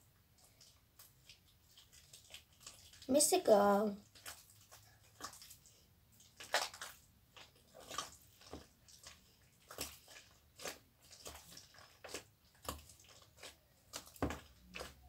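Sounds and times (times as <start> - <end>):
wet slime squelches: 0.0 - 15.0.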